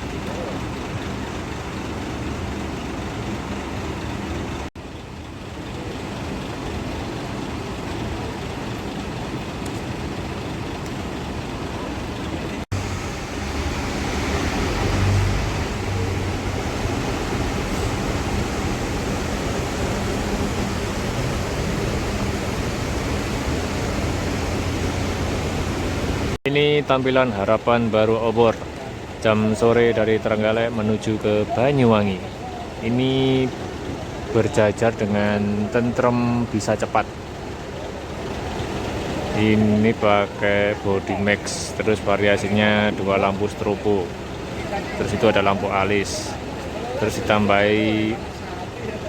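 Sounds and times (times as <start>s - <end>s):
bus diesel engine rumbling: 0.0s - 49.0s
road noise: 0.0s - 49.0s.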